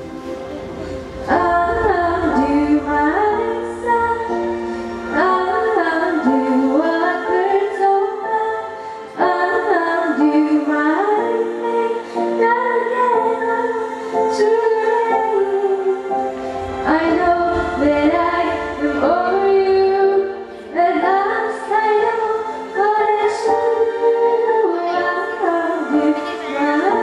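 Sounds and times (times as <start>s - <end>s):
girl singing into microphone: 1.3s - 27.0s.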